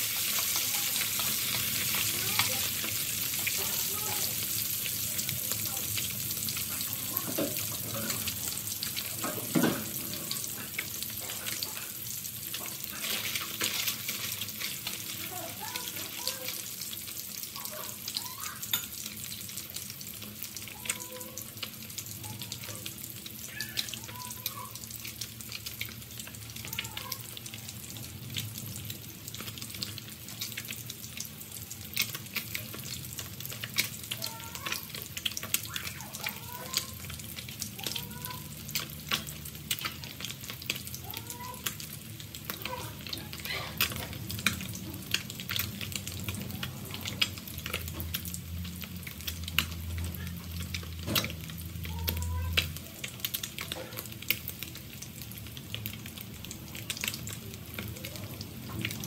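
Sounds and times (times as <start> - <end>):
fish deep-frying in oil: 0.0 - 59.0.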